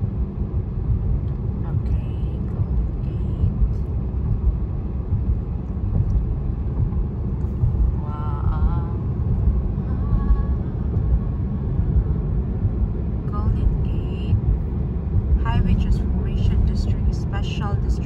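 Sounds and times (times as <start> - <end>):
car road rumble from inside: 0.0 - 18.0.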